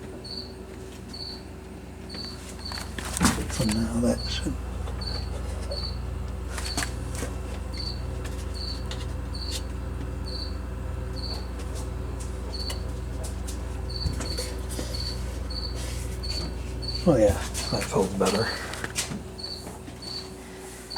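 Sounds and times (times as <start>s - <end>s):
refrigerator humming: 0.0s - 20.9s.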